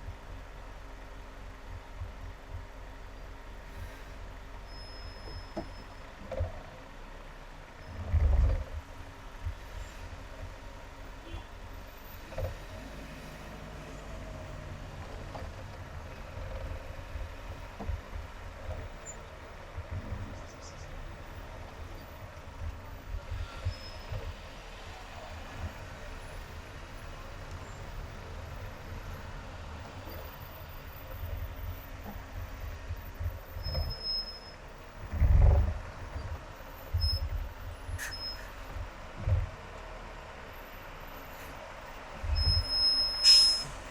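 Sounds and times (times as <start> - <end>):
road rumble: 0.0 - 43.9.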